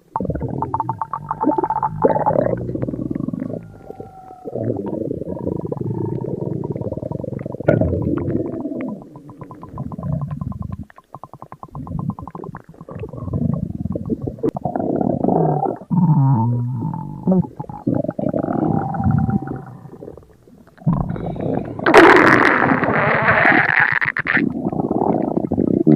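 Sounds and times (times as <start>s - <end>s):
stomach growling and gurgling: 0.0s - 25.9s.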